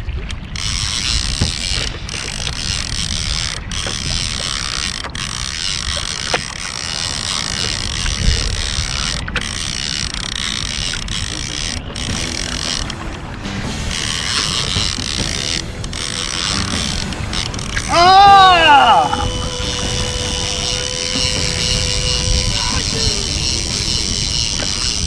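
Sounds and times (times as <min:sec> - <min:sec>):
wind rumble on microphone: 0:00.0 - 0:25.0
fishing reel ratcheting buzz: 0:00.4 - 0:25.0.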